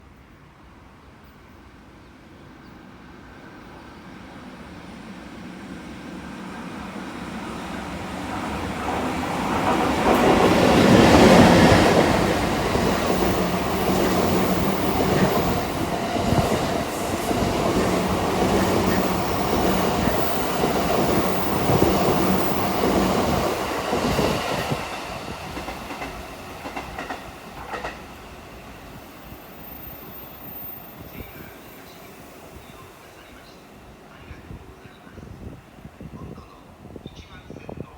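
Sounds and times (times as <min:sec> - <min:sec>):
train passing: 0:00.0 - 0:37.9.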